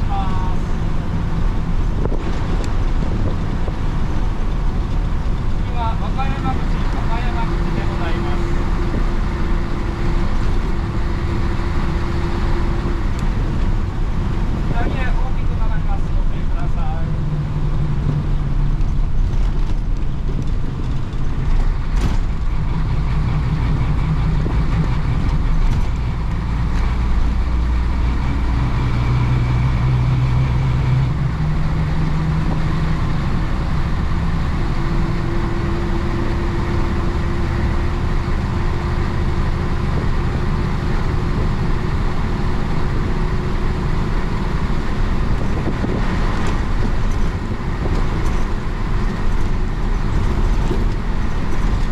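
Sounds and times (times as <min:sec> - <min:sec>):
diesel bus engine running: 0:00.0 - 0:51.9.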